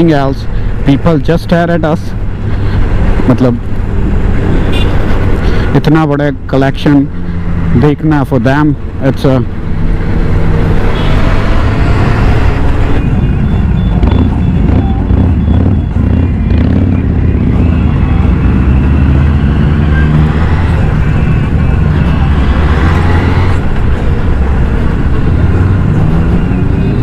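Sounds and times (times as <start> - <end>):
motorcycle engines droning: 0.0 - 27.0.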